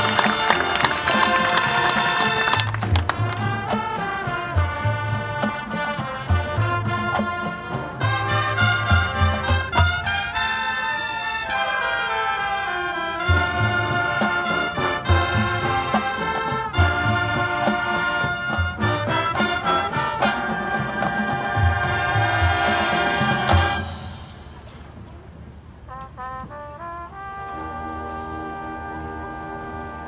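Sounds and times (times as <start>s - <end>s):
marching band brass chords: 0.0s - 30.0s.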